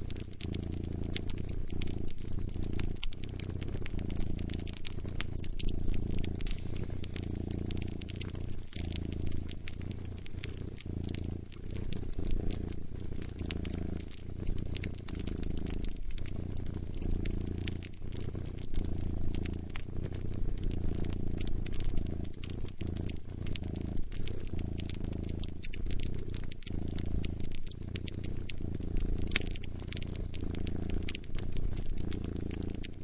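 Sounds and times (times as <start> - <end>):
cat purring: 0.0 - 33.0
wood fire crackling and popping: 0.0 - 33.0.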